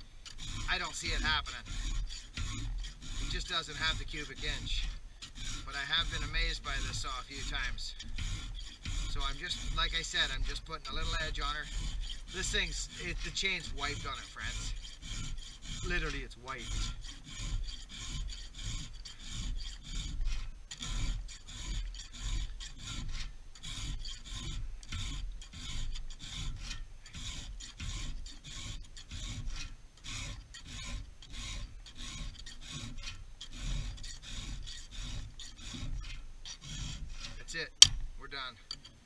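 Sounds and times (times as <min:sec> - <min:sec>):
file rasping on chainsaw chain: 0:00.0 - 0:39.0.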